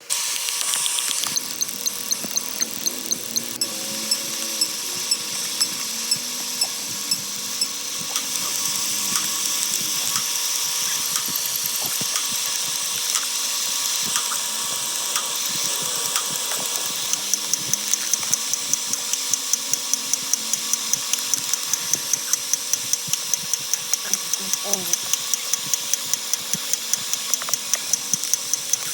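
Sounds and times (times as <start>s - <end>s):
sharp clicks pulse: 0.1s - 28.9s
dense buzzing jumble: 1.3s - 28.9s.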